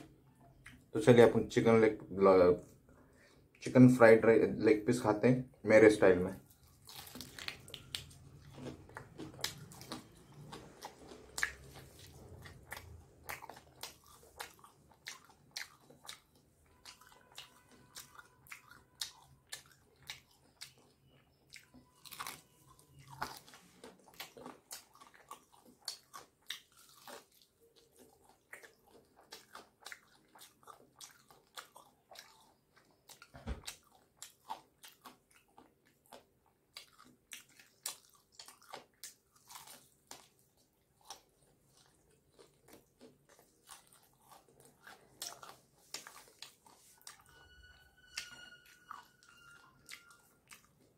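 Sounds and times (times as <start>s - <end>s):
crunchy fried chicken chewing: 6.2s - 50.9s.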